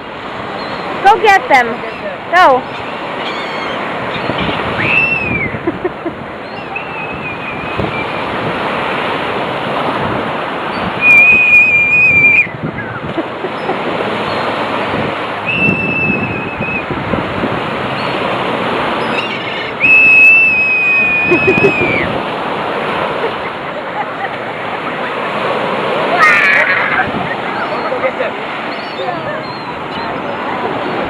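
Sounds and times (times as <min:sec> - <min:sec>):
surf washing on beach: 0:00.0 - 0:31.0.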